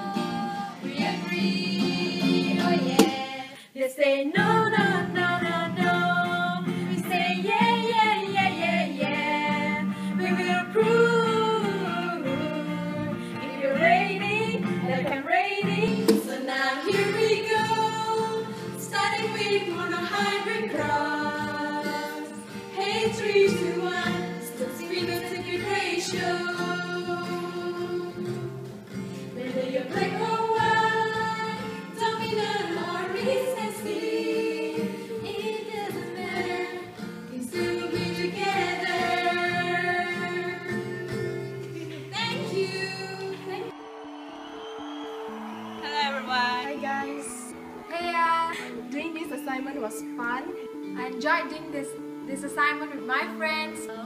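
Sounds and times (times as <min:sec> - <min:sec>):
women singing together: 0:00.0 - 0:28.6, 0:29.2 - 0:43.8
acoustic guitar: 0:00.0 - 0:54.0.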